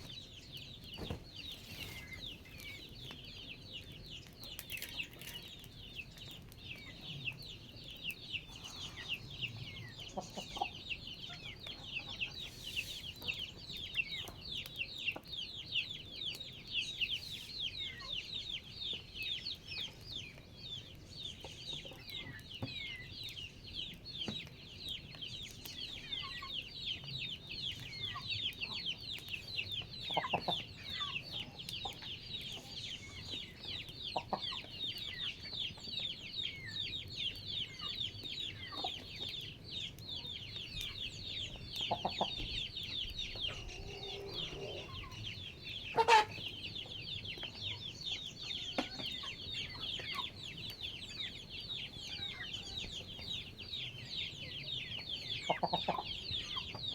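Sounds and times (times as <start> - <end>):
chickens clucking: 0.0 - 56.9
chicks chirping in chorus: 0.0 - 56.9.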